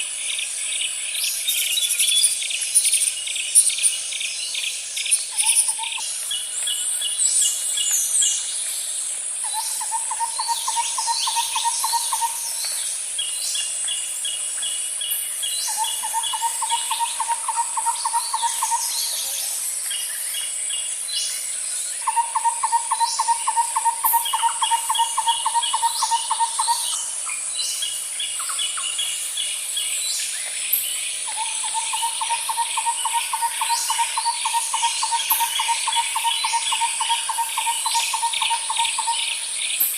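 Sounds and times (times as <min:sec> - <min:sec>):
high insect hiss: 0:00.0 - 0:39.9.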